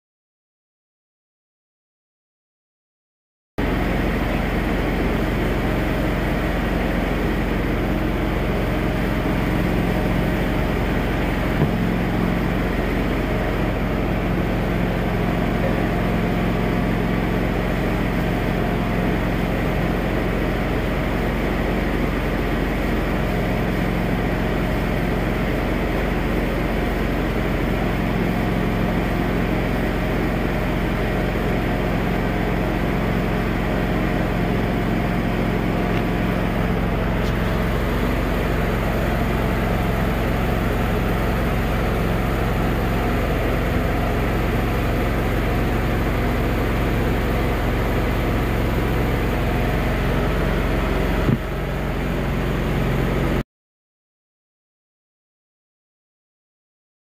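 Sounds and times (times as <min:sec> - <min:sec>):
engine running: 0:03.6 - 0:53.4.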